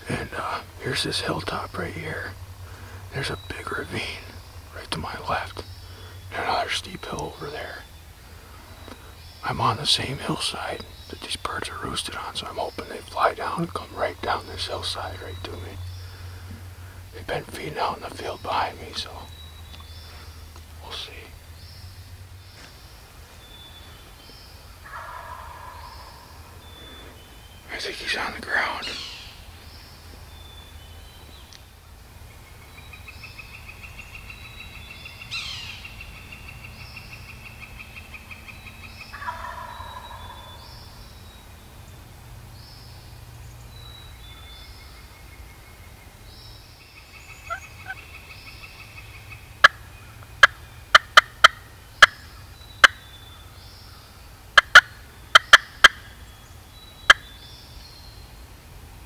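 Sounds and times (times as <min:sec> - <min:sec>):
songbirds trilling: 0:00.0 - 0:59.0.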